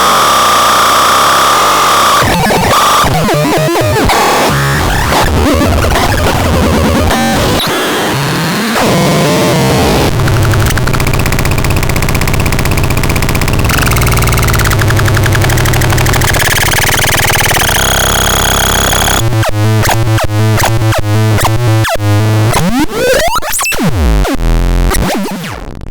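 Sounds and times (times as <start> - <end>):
harsh buzzing synthesizer drone: 0.0 - 25.7.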